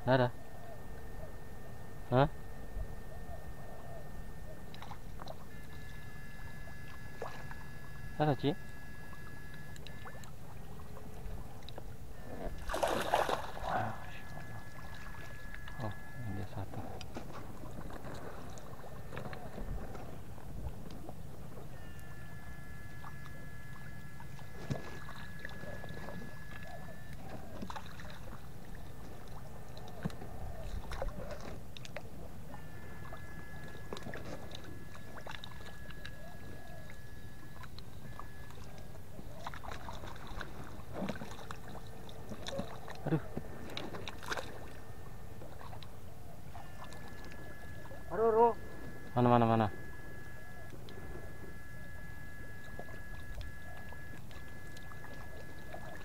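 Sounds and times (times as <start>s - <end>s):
electric fish-shocker whining: 0.0s - 56.0s
water sloshing: 0.8s - 56.0s
water splashes: 4.6s - 21.7s, 22.8s - 56.0s.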